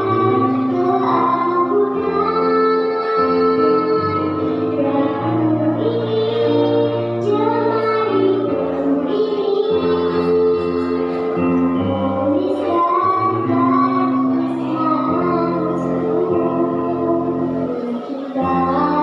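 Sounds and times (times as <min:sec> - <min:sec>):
girl singing into a microphone: 0:00.0 - 0:19.0
instrumental accompaniment: 0:00.0 - 0:19.0.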